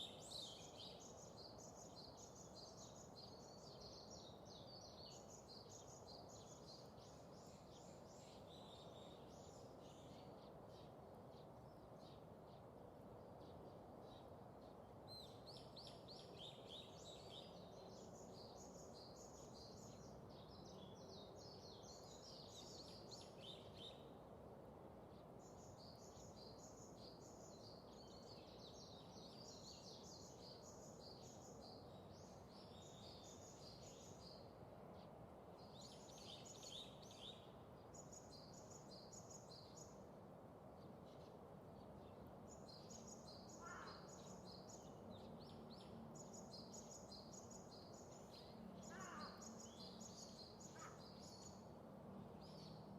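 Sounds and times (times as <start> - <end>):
faint birds twittering: 0.0 - 52.9
low steady background hiss: 0.0 - 52.9.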